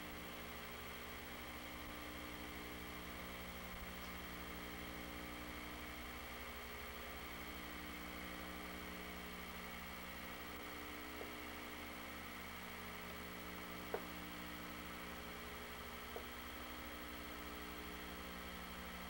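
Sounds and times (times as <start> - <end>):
hiss and electrical hum: 0.0 - 19.0.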